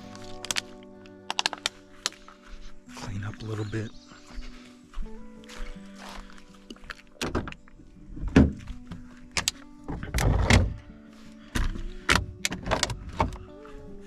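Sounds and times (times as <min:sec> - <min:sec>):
background music with held notes: 0:00.0 - 0:14.0.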